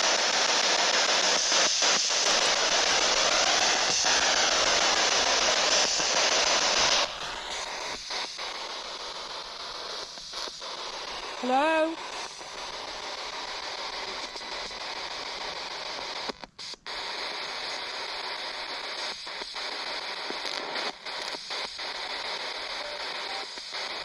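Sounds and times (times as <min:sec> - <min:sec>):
radio static hissing: 0:00.0 - 0:24.0.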